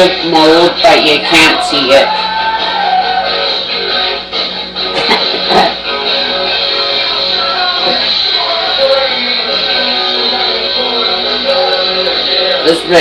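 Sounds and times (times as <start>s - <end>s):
rock music through small speaker: 0.0s - 13.0s.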